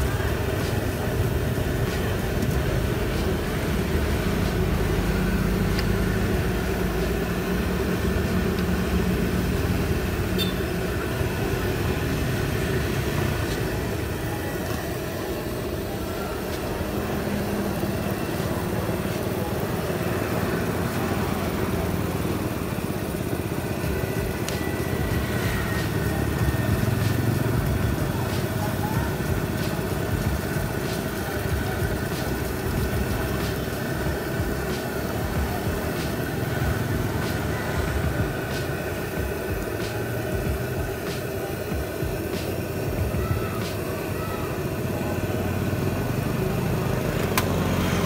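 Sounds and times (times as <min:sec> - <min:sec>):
motorbike traffic hum: 0:00.0 - 0:48.0
oil sizzling in a wok: 0:00.0 - 0:48.0.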